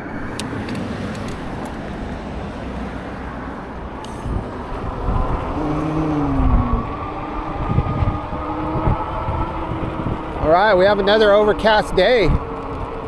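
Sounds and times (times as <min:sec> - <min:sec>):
passing vehicle engine: 0:00.0 - 0:13.0
road traffic rumble: 0:00.0 - 0:13.0.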